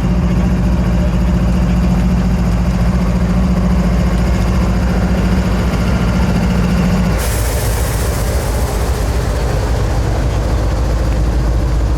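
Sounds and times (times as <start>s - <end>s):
diesel locomotive engine idling: 0.0s - 11.9s.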